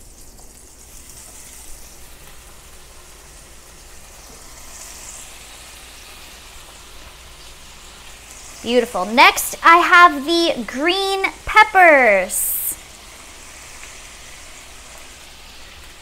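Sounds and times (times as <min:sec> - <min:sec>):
butter sizzling in a pan: 0:00.0 - 0:16.0.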